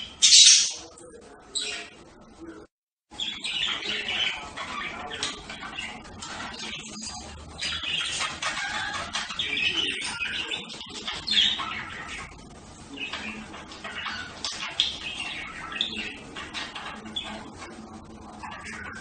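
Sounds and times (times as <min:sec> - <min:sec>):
budgerigars chattering: 0:00.0 - 0:00.9, 0:03.2 - 0:19.0.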